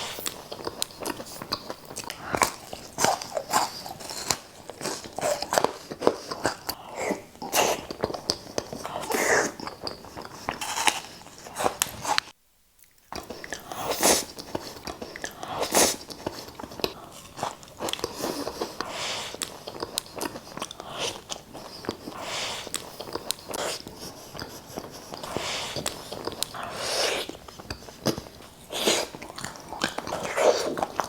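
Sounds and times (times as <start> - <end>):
crisp crunching chewing: 0.0 - 6.8, 7.4 - 31.0.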